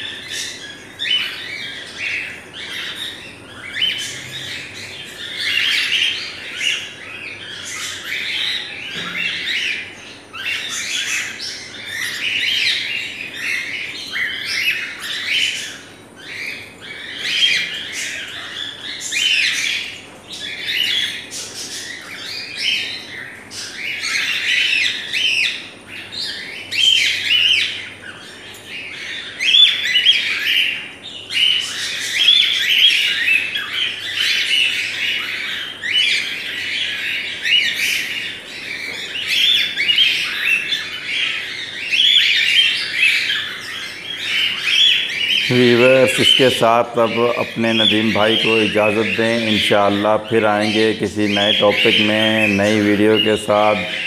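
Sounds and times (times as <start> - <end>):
parrots chattering: 0.0 - 54.0.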